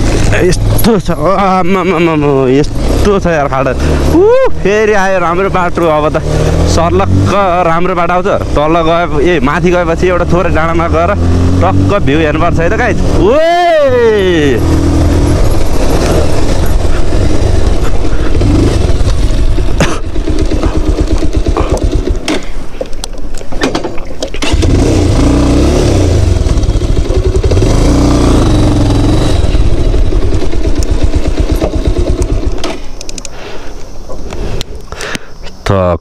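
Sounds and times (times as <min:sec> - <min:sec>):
motorcycle engine revving: 0:00.0 - 0:22.5, 0:24.3 - 0:32.9.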